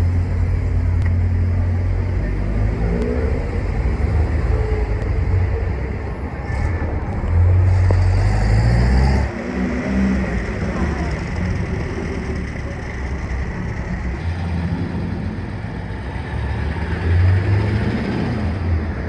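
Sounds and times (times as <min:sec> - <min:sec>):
car engine running: 0:00.0 - 0:18.6.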